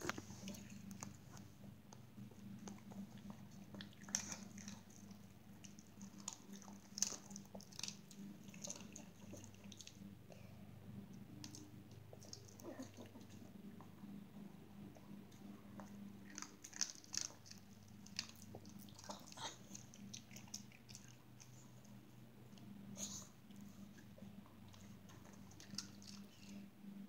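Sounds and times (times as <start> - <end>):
dog chewing and crunching treats: 0.0 - 10.5, 11.1 - 27.0
faint low hum: 0.0 - 27.0.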